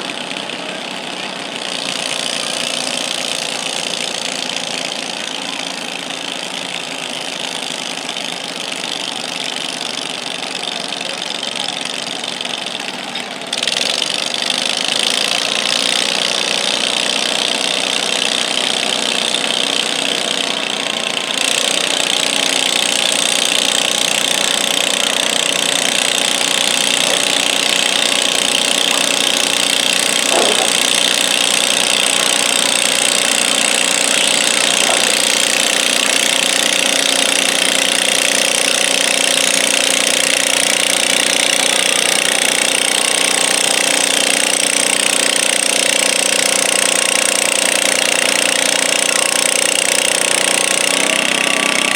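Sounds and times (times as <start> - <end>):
tractor engine under load: 0.0 - 51.9.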